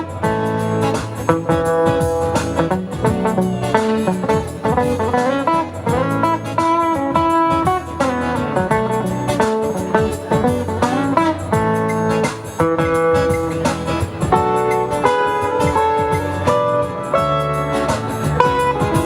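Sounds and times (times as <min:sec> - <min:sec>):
guitar plucked notes and chords: 0:00.0 - 0:19.0.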